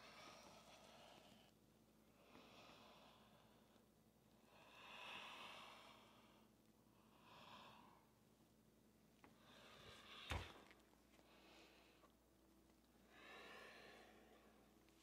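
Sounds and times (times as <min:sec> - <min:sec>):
person breathing: 0:00.0 - 0:03.8, 0:04.4 - 0:08.2, 0:09.3 - 0:12.3, 0:13.0 - 0:14.8.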